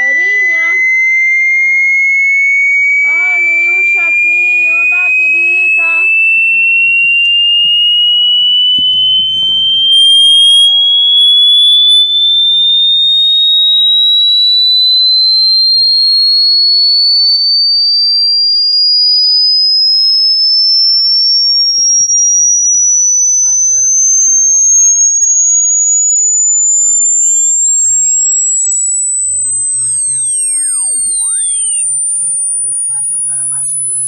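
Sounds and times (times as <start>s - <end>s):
rising electronic sine tone: 0.0s - 34.0s.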